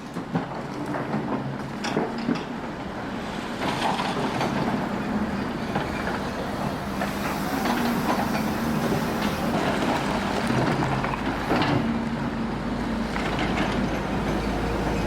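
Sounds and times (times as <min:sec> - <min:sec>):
heavy demolition machinery running: 0:00.0 - 0:15.0.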